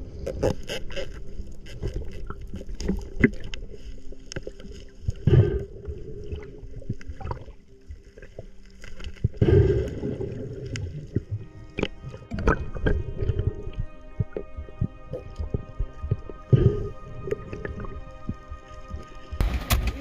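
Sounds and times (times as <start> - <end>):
water sloshing and gurgling: 0.0 - 20.0.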